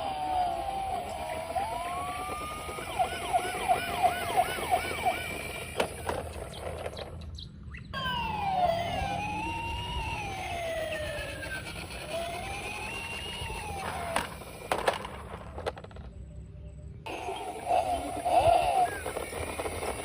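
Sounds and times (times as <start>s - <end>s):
siren wail: 0.0s - 6.9s, 8.0s - 15.1s, 17.1s - 20.0s
toy siren yelp sweeps: 0.0s - 7.2s, 8.0s - 15.2s, 17.1s - 20.0s.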